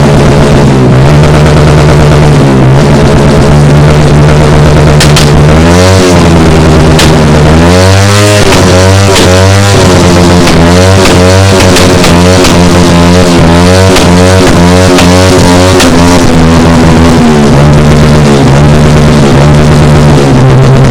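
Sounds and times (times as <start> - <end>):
motorcycle engine revving: 0.0 - 20.9
sharp exhaust cracks: 0.0 - 20.9.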